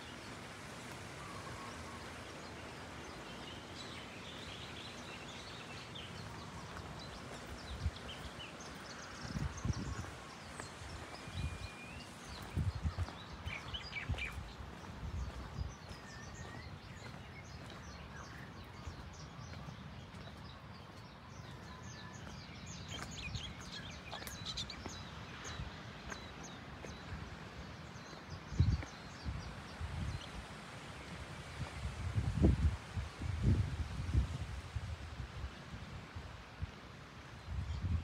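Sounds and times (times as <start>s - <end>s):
outdoor background noise: 0.0s - 38.0s.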